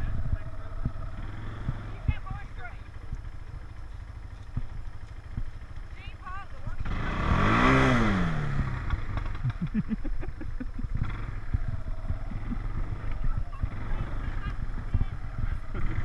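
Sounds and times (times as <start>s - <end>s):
four-wheeler engine running: 0.0s - 16.0s
motor vehicle passing by: 0.0s - 16.0s.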